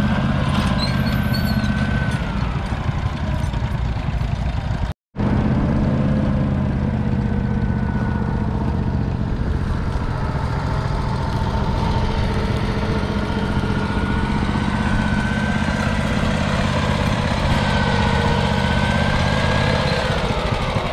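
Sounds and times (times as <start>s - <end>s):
single-cylinder engine running: 0.0s - 20.9s.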